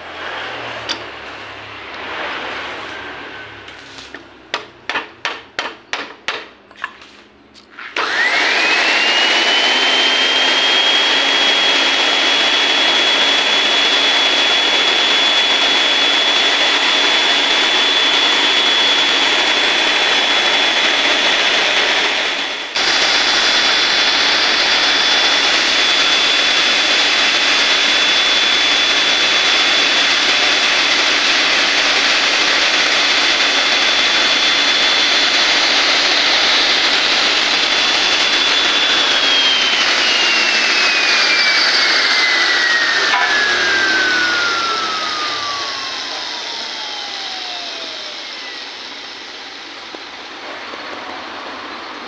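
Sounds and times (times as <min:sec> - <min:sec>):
drill motor whining: 0:07.9 - 0:51.1.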